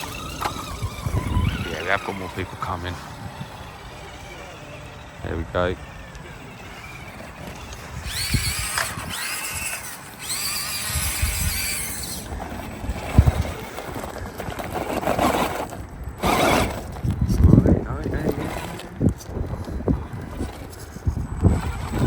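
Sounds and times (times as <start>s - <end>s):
low rumbling: 0.0s - 22.0s
small electric motor whining: 0.0s - 22.0s.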